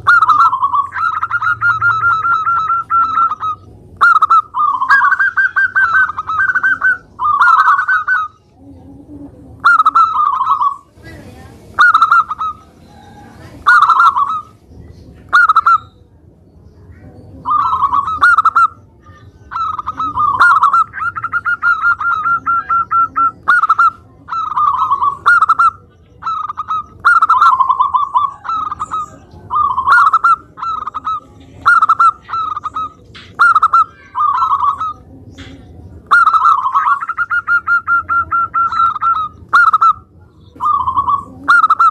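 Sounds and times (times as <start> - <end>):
dove cooing: 0.0 - 14.6, 15.2 - 16.0, 17.3 - 41.9.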